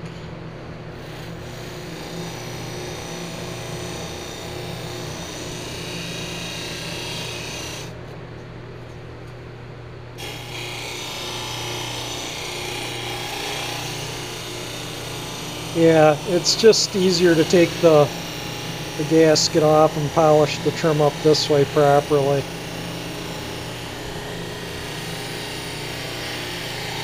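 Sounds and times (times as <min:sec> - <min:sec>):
bench buffer motor hum: 0:00.9 - 0:08.1, 0:10.1 - 0:27.0.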